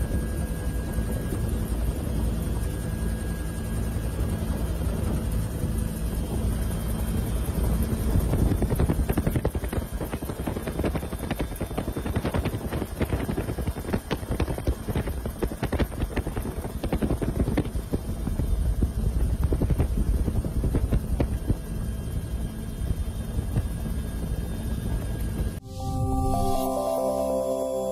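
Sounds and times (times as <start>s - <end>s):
helicopter rotor and engine rumble: 0.0s - 25.6s.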